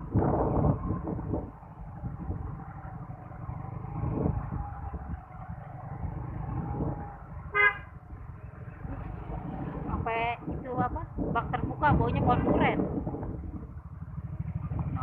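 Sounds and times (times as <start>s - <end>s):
scooter engine: 0.0s - 10.3s, 11.5s - 15.0s
road rumble: 0.0s - 15.0s.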